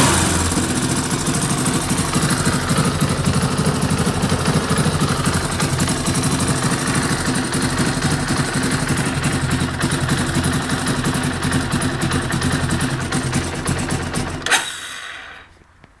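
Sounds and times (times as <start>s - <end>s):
quad engine idling: 0.0s - 15.0s.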